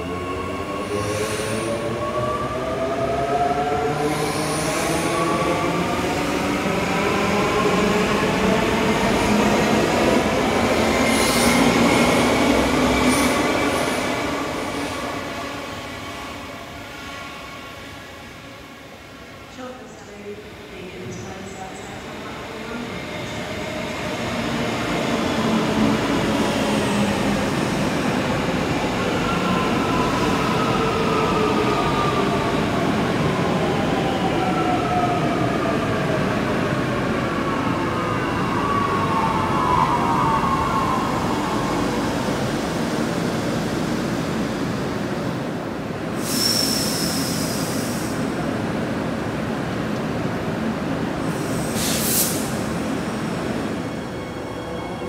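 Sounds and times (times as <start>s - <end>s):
train running on track: 0.0s - 55.0s.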